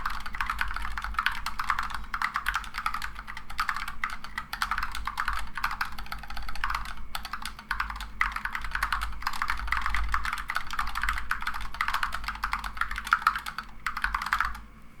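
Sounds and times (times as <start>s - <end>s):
mechanical keyboard typing: 0.0s - 14.6s
steady low hum: 0.0s - 15.0s.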